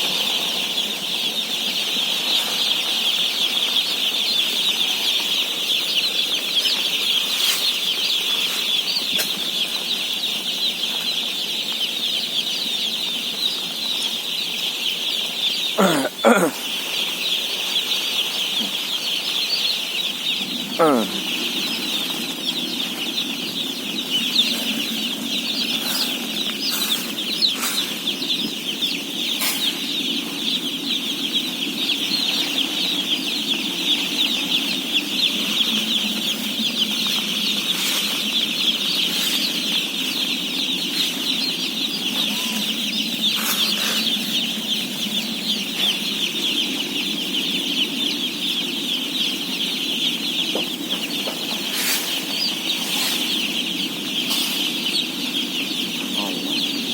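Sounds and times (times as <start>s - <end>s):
chicks peeping: 0.0s - 56.9s.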